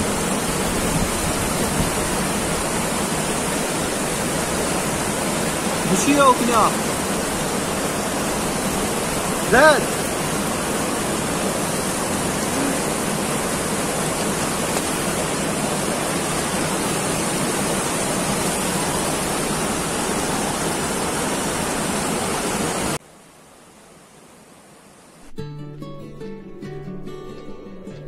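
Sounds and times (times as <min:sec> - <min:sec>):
river rushing over rocks: 0:00.0 - 0:25.2.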